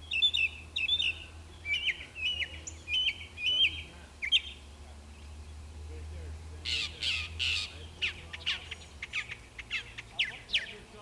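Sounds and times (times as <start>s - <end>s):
songbird chirping: 0.0s - 5.8s, 6.6s - 11.0s
steady low hum: 0.0s - 11.0s.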